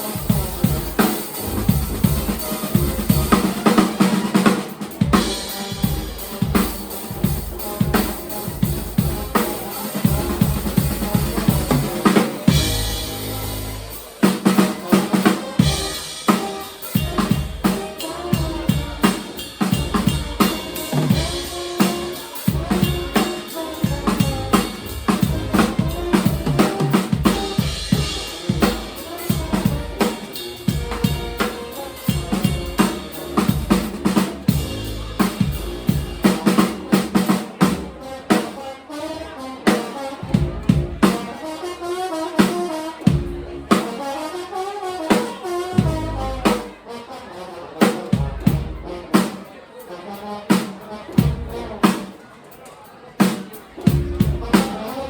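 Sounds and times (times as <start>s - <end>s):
drum kit beat: 0.0s - 38.6s, 39.7s - 41.3s, 42.4s - 44.0s, 45.1s - 46.8s, 47.9s - 49.4s, 50.5s - 52.2s, 53.2s - 55.0s
live band playing: 0.0s - 52.6s, 53.2s - 55.0s.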